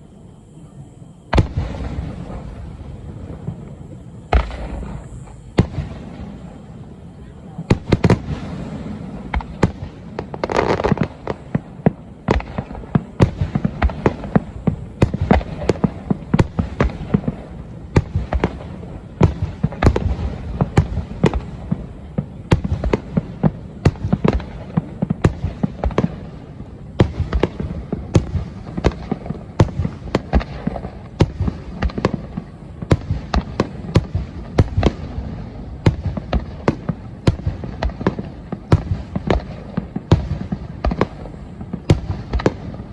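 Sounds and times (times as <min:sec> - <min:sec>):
fireworks bangs and crackles: 0:00.0 - 0:42.9
low rumble of fireworks bursts: 0:00.0 - 0:42.9.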